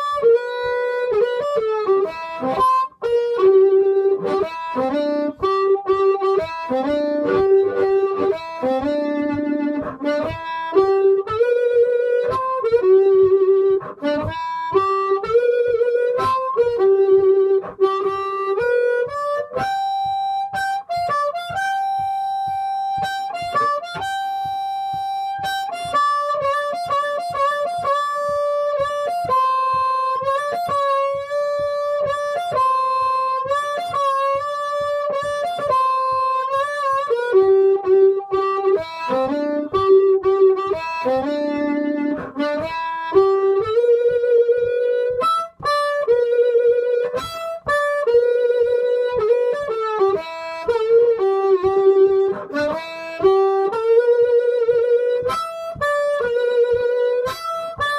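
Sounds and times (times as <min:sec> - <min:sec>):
amplified blues harmonica: 0:00.0 - 0:57.9
steady percussive pulse: 0:00.0 - 0:57.9.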